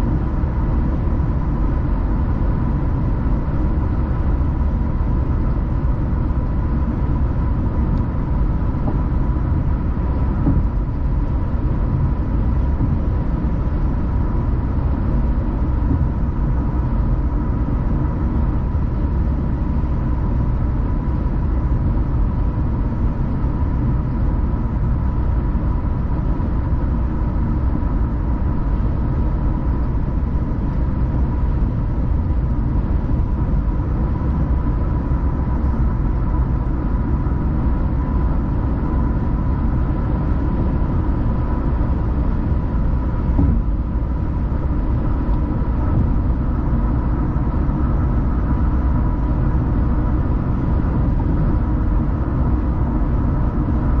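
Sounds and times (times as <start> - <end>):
faint steady whine: 0.0 - 54.0
road and engine rumble: 0.0 - 54.0.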